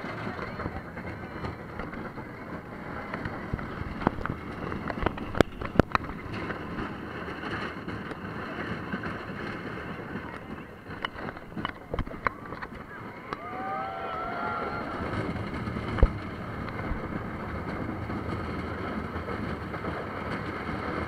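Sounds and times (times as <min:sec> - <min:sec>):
roller coaster rumbling on track: 0:00.0 - 0:21.0
wind buffeting microphone: 0:00.0 - 0:21.0.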